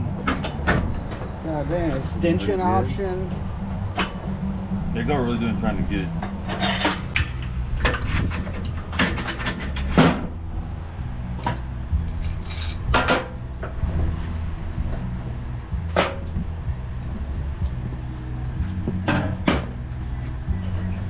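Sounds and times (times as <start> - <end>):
knocks and clanks: 0.0 - 2.1, 3.3 - 4.4, 6.2 - 10.4, 11.2 - 21.0
steady low hum: 0.0 - 21.0.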